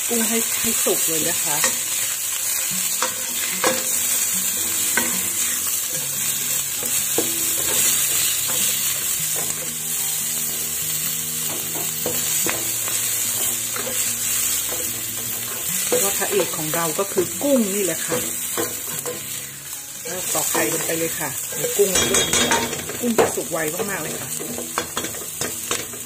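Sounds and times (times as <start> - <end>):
prawns sizzling in hot oil: 0.0 - 26.0
spatula scraping a wok: 0.2 - 26.0.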